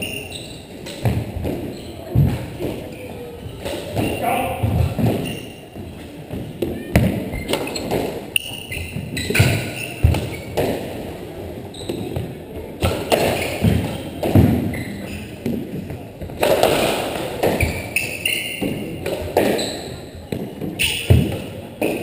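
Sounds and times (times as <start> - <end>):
sneakers squeaking on hardwood: 0.0 - 11.0, 11.6 - 22.0
squash ball striking rackets and walls: 0.0 - 11.0, 11.8 - 22.0.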